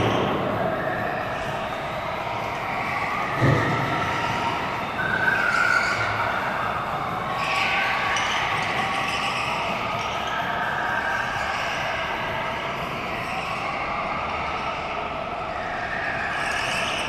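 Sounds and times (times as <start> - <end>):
go-kart motors whining: 0.0 - 17.0.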